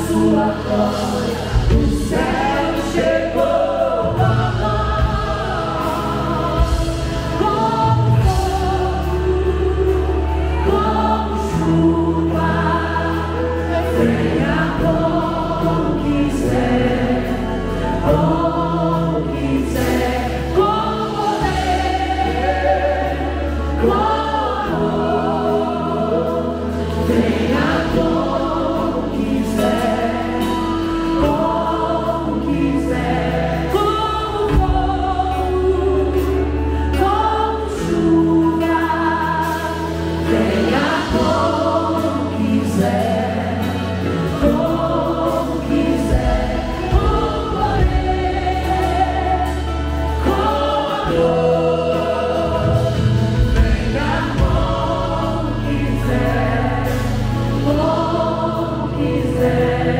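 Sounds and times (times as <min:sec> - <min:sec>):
many voices singing along: 0:00.0 - 0:59.9
woman singing lead: 0:00.0 - 0:59.9
worship band playing: 0:00.0 - 0:59.9.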